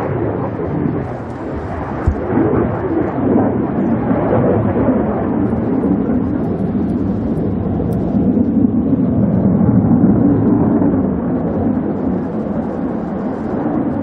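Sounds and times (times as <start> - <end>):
jet engine rumble in flight: 0.0 - 14.0.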